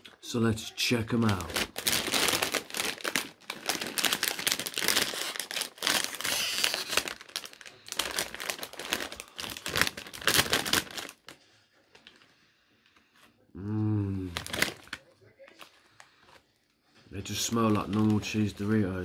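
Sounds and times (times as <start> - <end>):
crisp bag crinkling: 0.0 - 12.3, 14.2 - 16.4, 17.2 - 18.8.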